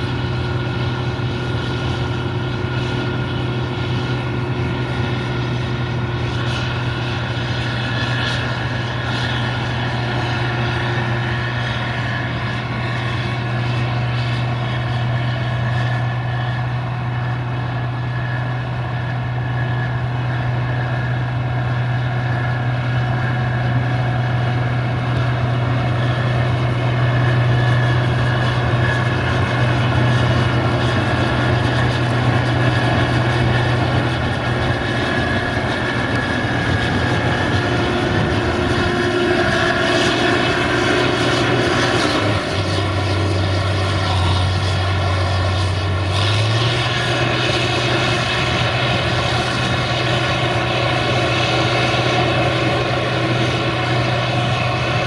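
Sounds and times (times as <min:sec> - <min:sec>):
combine harvester engine drone: 0:00.0 - 0:55.0
machinery noise: 0:00.0 - 0:55.0.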